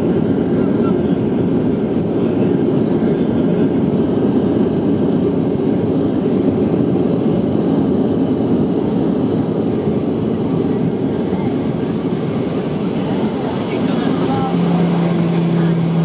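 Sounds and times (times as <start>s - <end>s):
aircraft cabin engine noise: 0.0s - 16.0s.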